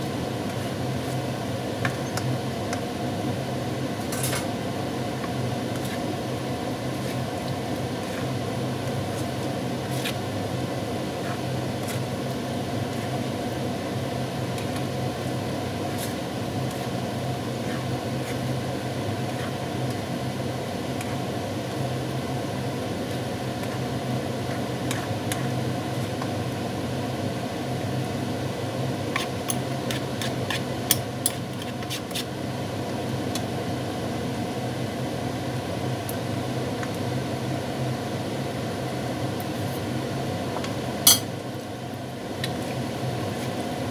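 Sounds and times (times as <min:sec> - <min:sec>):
fan hum and hiss: 0:00.0 - 0:43.9.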